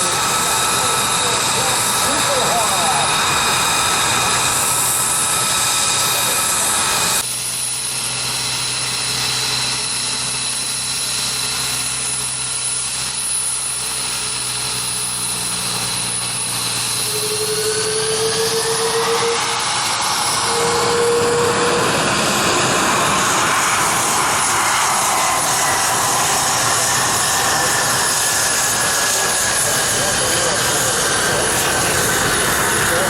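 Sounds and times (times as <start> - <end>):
jet engine noise: 0.0 - 33.0
rising whine: 0.0 - 33.0.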